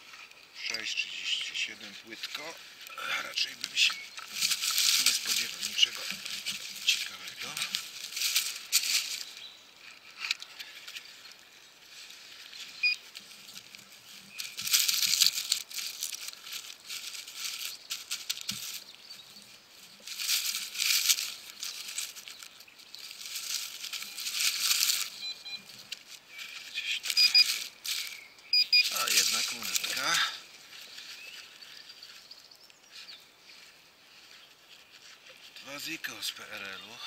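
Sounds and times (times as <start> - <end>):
leaves rustling: 0.0 - 37.0.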